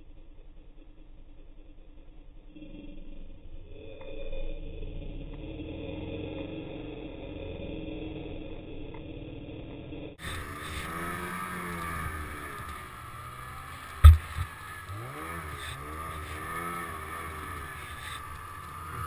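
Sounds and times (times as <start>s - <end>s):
snowmobile engine running: 0.0s - 19.0s.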